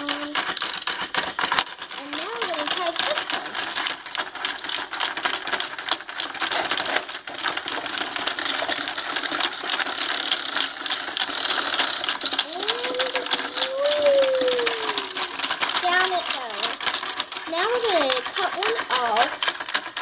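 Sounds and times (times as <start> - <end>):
plastic rattling: 0.0 - 20.0
toy motor clicking whir: 0.0 - 20.0.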